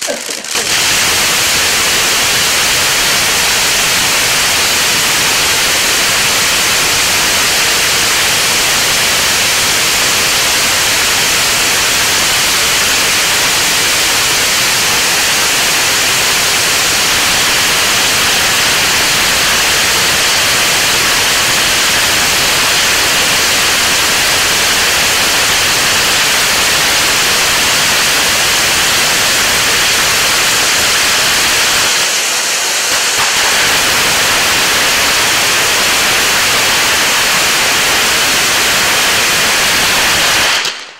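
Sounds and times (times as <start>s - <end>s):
firework fountain hissing: 0.0s - 40.9s.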